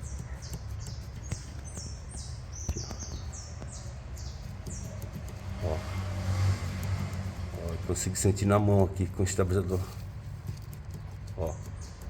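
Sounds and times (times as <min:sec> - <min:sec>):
bird chirping: 0:00.0 - 0:09.9, 0:10.6 - 0:12.0.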